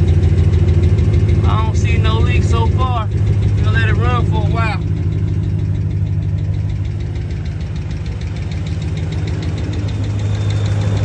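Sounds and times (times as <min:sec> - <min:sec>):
car engine idling: 0:00.0 - 0:11.0
fast engine ticking: 0:00.0 - 0:11.0.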